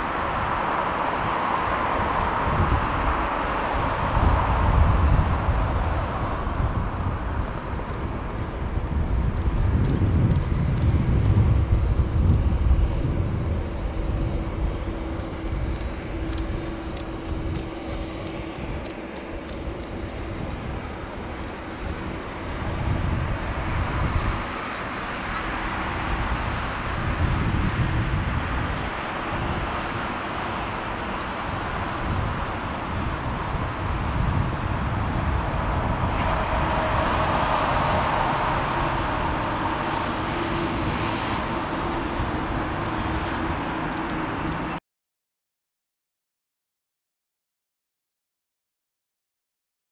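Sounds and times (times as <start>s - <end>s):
jet engines hiss and rumble: 0.0s - 44.8s.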